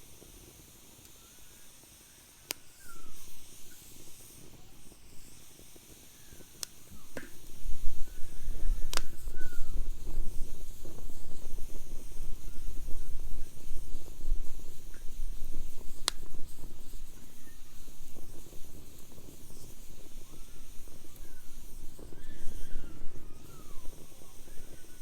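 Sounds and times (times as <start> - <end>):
burning wood popping: 0.0 - 25.0
wood fire crackling: 0.0 - 25.0.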